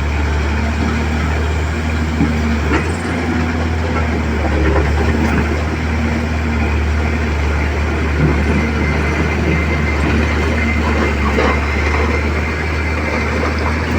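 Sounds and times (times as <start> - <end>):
diesel engine rumbling: 0.0 - 13.9.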